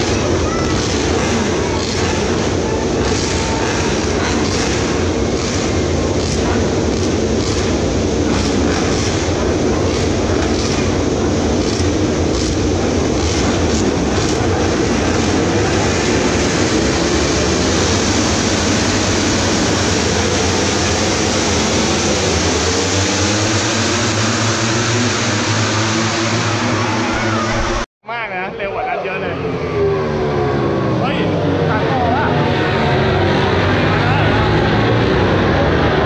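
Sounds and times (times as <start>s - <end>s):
racing motorcycles revving: 0.0s - 27.9s, 28.8s - 36.0s.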